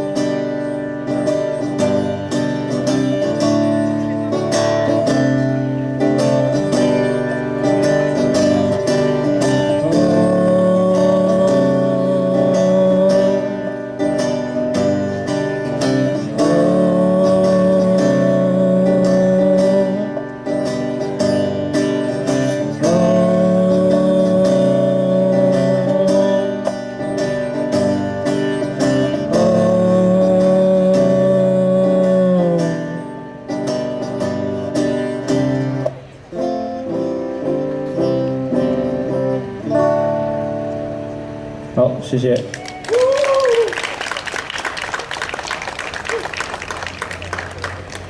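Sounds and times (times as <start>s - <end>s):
strummed guitar chords: 0.0s - 42.4s
sliding lead guitar notes: 0.0s - 48.0s.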